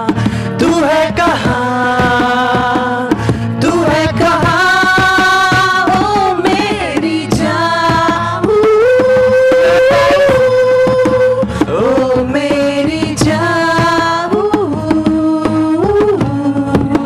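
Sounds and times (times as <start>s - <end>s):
acoustic guitars strumming: 0.0s - 15.0s
person singing: 0.0s - 17.0s.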